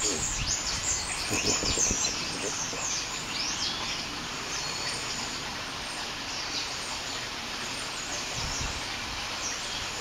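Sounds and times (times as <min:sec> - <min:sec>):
birds chirping: 0:00.0 - 0:10.0
outdoor background hiss: 0:00.0 - 0:10.0.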